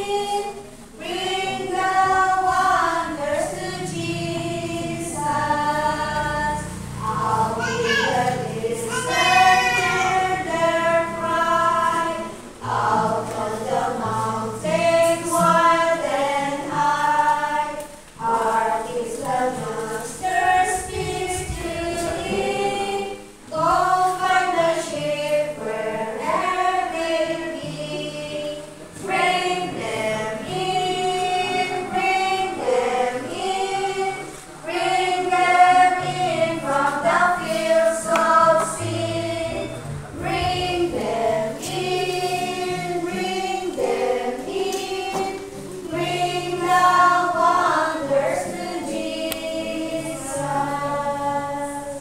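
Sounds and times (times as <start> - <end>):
women singing a hymn: 0.0 - 52.0.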